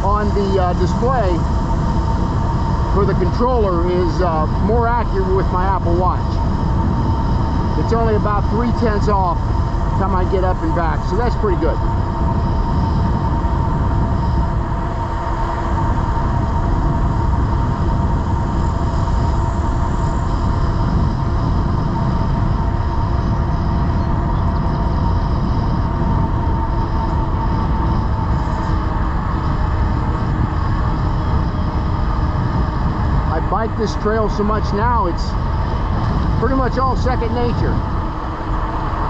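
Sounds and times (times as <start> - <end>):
e-bike wind and rolling rumble: 0.0 - 39.0
thin constant whine: 0.0 - 39.0.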